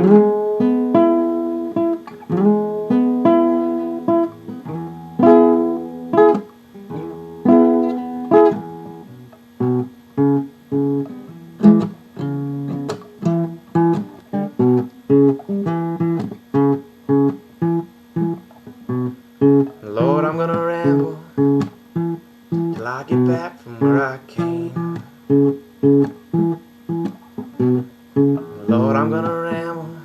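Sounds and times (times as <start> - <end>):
acoustic guitar blues: 0.0 - 30.0.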